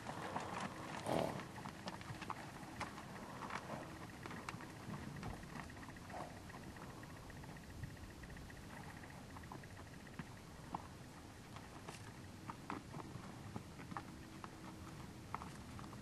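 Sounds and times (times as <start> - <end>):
hooves on stony ground: 0.0 - 16.0.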